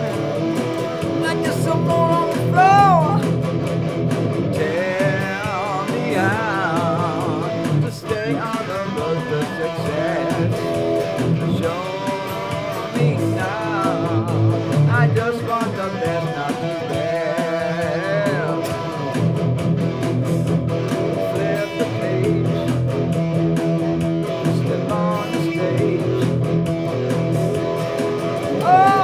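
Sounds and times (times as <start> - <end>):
drum machine beat: 0.0 - 29.0
electric guitar lead notes: 0.0 - 29.0.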